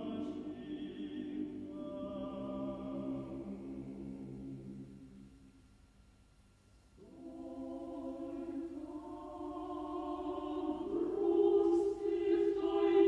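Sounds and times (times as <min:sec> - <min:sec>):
choir singing held chords: 0:00.0 - 0:05.4, 0:07.0 - 0:13.0.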